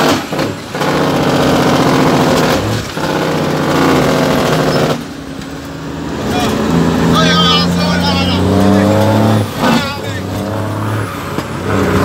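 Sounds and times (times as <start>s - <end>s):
truck diesel engine under load: 0.0s - 12.0s.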